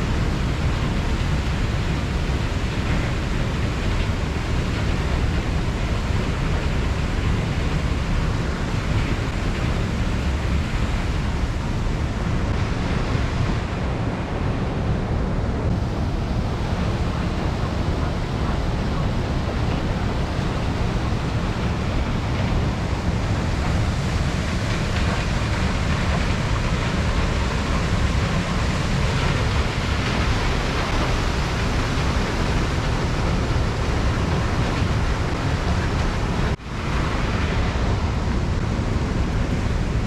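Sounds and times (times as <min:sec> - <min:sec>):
river water rushing: 0:00.0 - 0:13.4, 0:15.7 - 0:39.2
wind buffeting microphone: 0:00.0 - 0:40.0.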